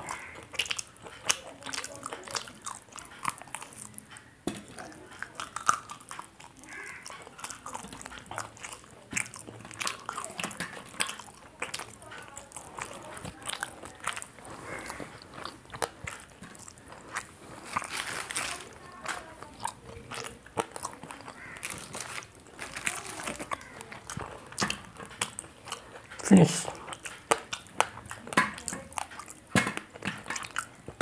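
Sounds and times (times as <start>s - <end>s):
person chewing and crunching food: 0.0s - 31.0s.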